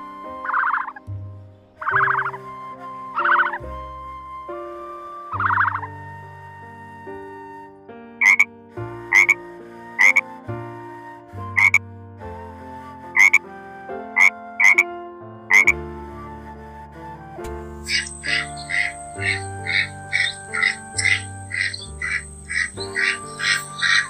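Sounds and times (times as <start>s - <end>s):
music of slow sustained chords: 0.0s - 24.0s.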